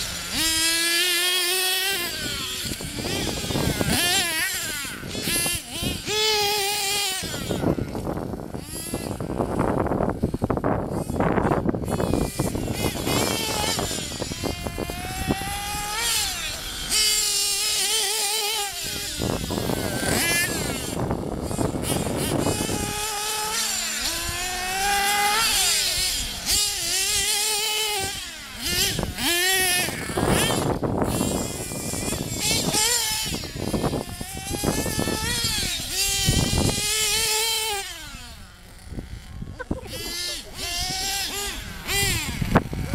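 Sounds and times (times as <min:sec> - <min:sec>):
small engines screaming and revving: 0:00.0 - 0:42.9.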